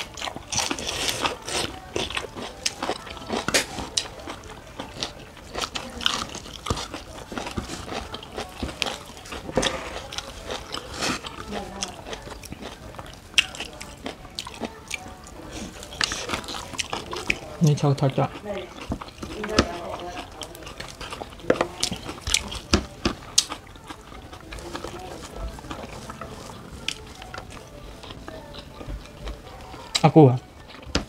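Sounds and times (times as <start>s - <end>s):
crunching and chewing vegetables: 0.0s - 31.0s.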